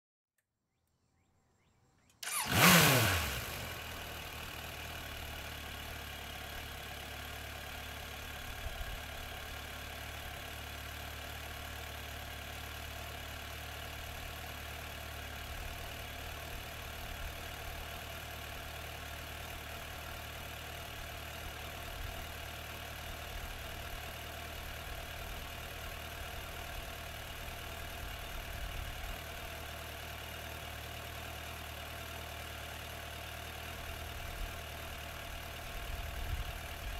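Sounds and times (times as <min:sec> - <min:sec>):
motorcycle engine starting and idling: 0:02.0 - 0:36.9.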